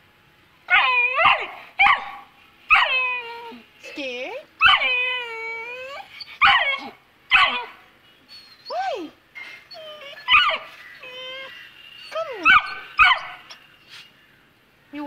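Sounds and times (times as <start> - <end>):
puppy yelping and whining: 0.7 - 3.6, 4.6 - 13.7.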